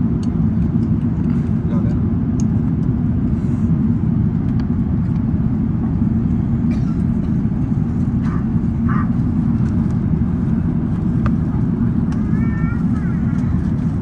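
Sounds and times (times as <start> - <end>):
airplane cabin roar: 0.0 - 14.0.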